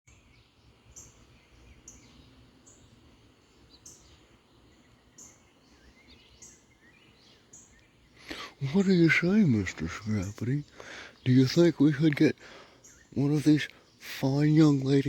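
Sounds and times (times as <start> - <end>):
faint sweeping bird calls: 0.1 - 15.0.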